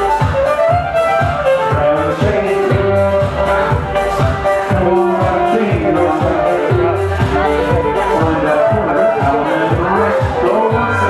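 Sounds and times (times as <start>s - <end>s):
electronic kick drum: 0.0s - 11.0s
sustained synth melody: 0.0s - 11.0s.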